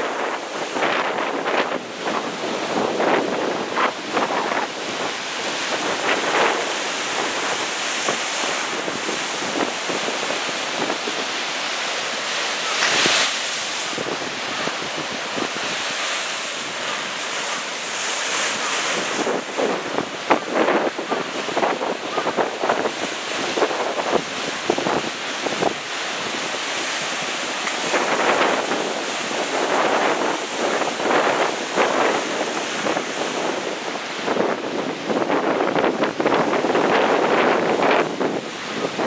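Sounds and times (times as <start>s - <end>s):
storm surf breaking: 0.0s - 39.0s
wind buffeting microphone: 0.0s - 39.0s.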